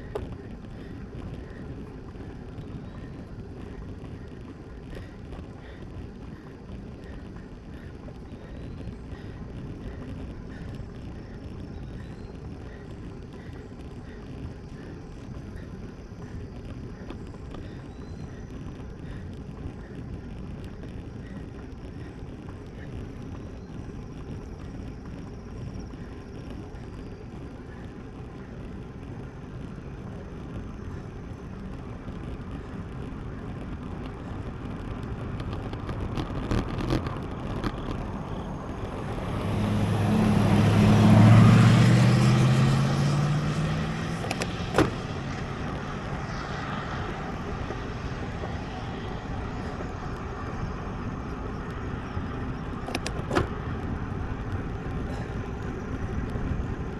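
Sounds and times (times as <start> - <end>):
motor vehicle passing: 0.0 - 56.9
wind and road rush: 0.0 - 56.9.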